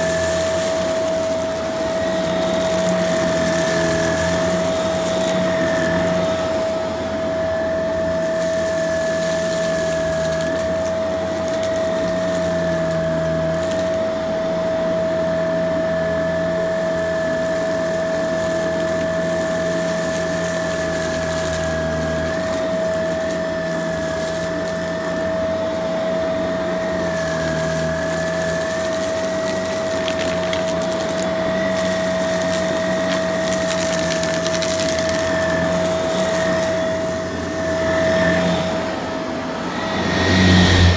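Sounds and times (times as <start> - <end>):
vacuum cleaner whining: 0.0 - 40.9.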